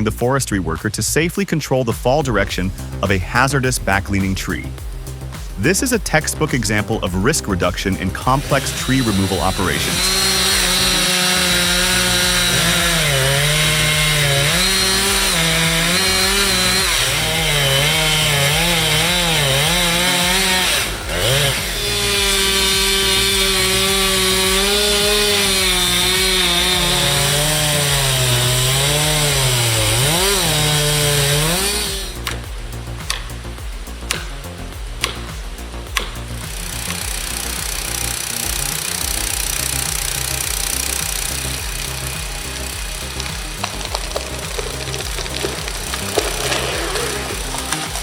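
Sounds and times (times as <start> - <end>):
chainsaw cutting wood: 2.6 - 48.0.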